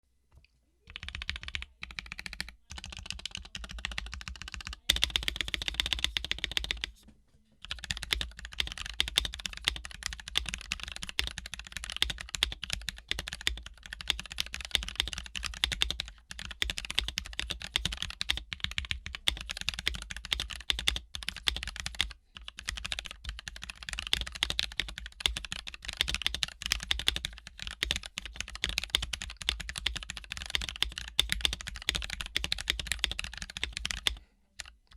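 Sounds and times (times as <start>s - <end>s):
fast mechanical keyboard typing: 0.9s - 6.9s, 7.6s - 34.9s.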